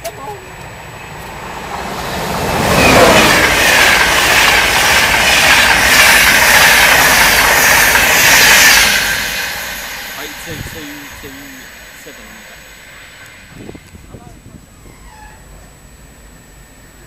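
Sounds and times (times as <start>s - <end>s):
train passing at speed: 0.0s - 17.0s
high falling whine: 0.5s - 17.0s.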